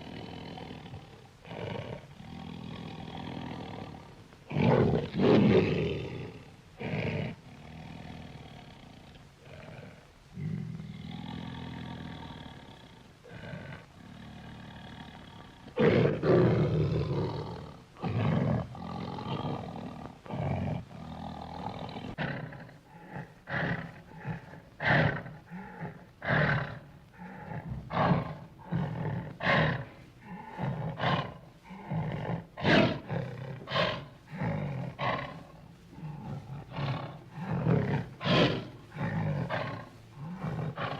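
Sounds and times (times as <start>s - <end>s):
bear growling: 0.0s - 40.9s
bear roaring: 0.0s - 40.9s.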